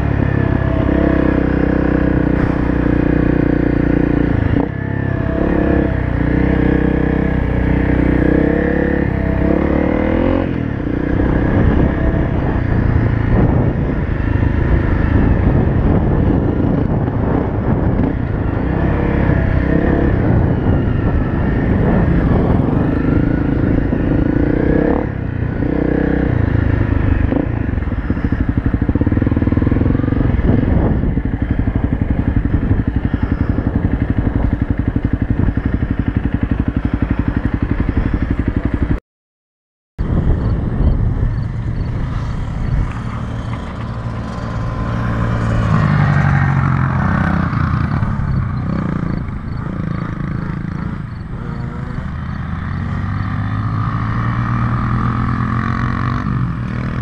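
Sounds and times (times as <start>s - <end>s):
motorcycle engine revving: 0.0s - 39.0s, 40.0s - 57.0s.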